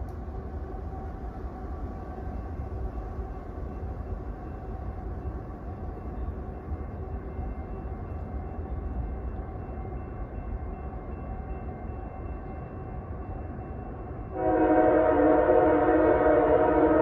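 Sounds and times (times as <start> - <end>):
diesel freight train rumble: 0.0 - 17.0.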